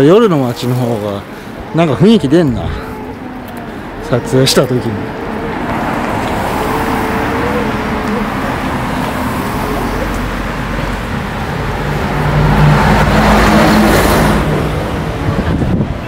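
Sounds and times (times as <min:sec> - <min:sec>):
cars passing on road: 0:00.0 - 0:16.0
vehicle passing close: 0:02.5 - 0:16.0.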